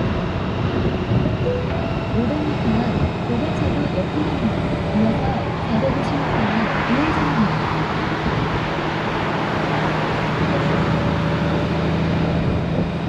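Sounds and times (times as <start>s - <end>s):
low engine hum: 0.0s - 13.0s
wind and road noise: 0.0s - 13.0s.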